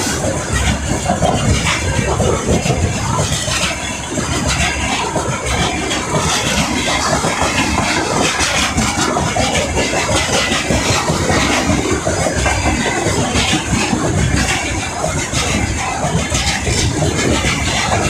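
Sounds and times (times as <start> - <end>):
freight train wheels on rail: 0.0 - 18.0
rapid train clatter: 0.0 - 18.0.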